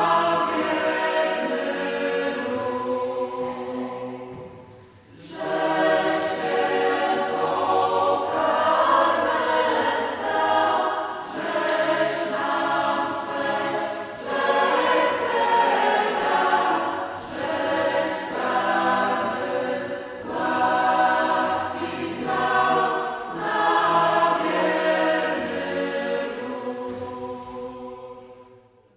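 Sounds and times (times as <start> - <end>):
choir singing: 0.0 - 28.9.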